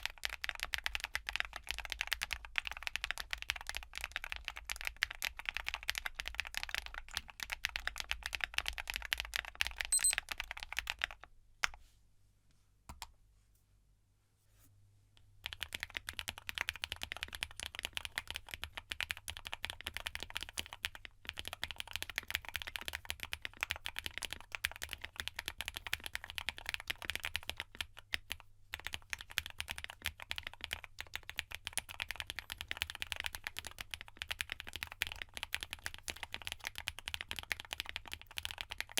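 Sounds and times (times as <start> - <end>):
clacky mechanical keyboard typing: 0.0 - 11.2, 15.4 - 38.9
muted mechanical keyboard typing: 0.0 - 11.2, 15.4 - 38.9.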